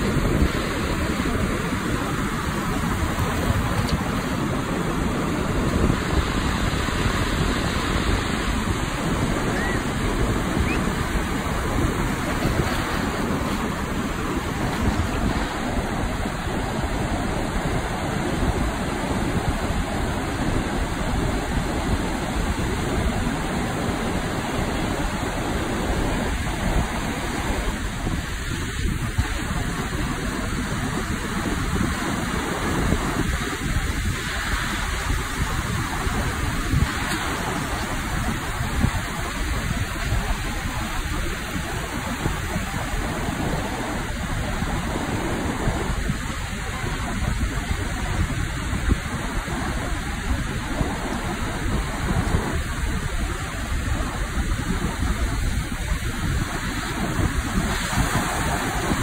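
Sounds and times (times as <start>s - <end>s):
wash hissing over sand: 0.0s - 59.0s
waves breaking: 0.0s - 59.0s
wind buffeting microphone: 0.0s - 59.0s.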